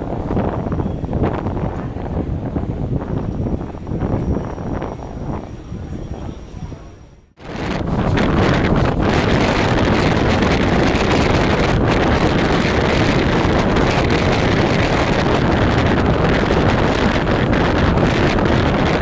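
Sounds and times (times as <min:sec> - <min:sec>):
electric train running at speed: 0:00.0 - 0:19.0
wind rushing over microphone: 0:00.0 - 0:19.0.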